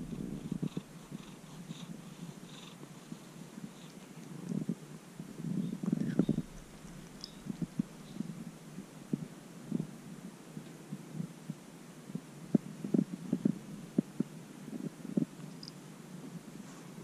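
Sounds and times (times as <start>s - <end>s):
cat purring: 0.0s - 10.0s, 10.9s - 17.0s.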